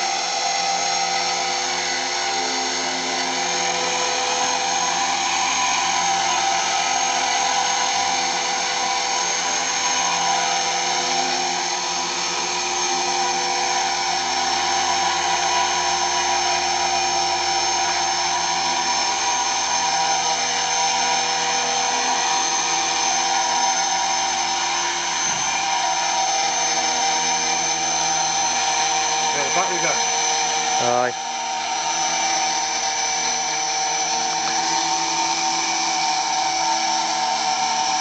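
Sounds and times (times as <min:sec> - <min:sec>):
electric helicopter motor whine: 0:00.0 - 0:38.0.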